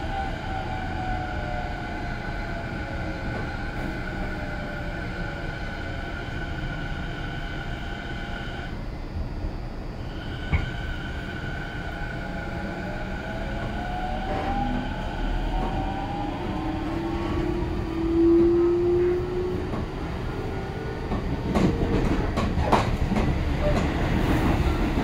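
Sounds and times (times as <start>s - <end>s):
train rolling on rails: 0.0s - 25.0s.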